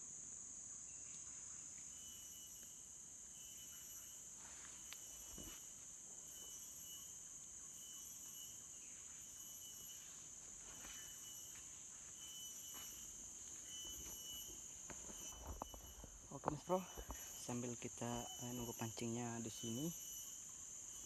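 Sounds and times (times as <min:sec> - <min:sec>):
insect pulsing call: 0:00.0 - 0:21.0
insects high-pitched drone: 0:00.0 - 0:21.0.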